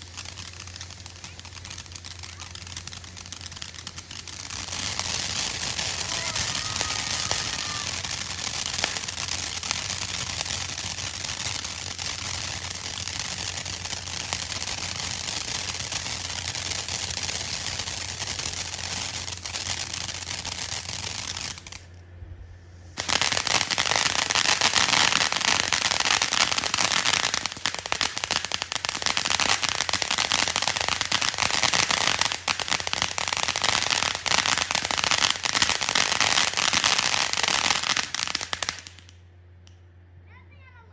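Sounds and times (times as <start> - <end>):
fireworks crackling and popping: 0.0 - 22.0, 22.8 - 39.8.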